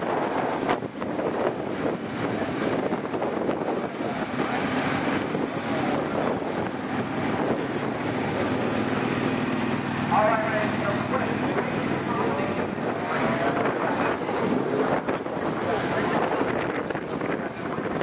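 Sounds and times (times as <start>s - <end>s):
wind buffeting microphone: 0.0s - 18.0s
engine idling: 0.9s - 17.8s.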